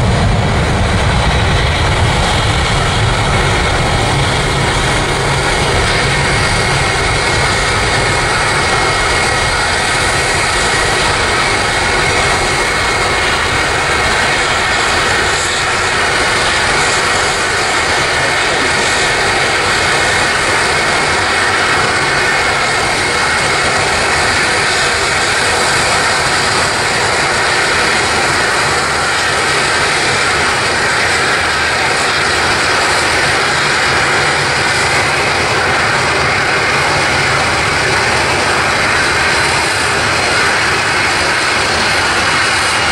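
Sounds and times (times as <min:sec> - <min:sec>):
jet engines roaring at takeoff: 0:00.0 - 0:42.9.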